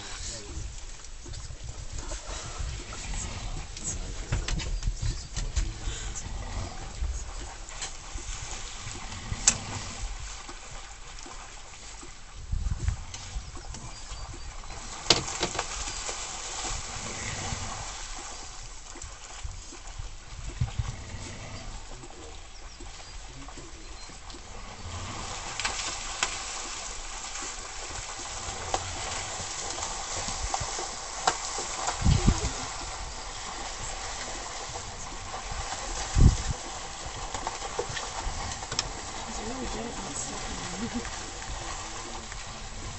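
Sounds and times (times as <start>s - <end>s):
water splashing and sloshing: 0.0s - 42.9s.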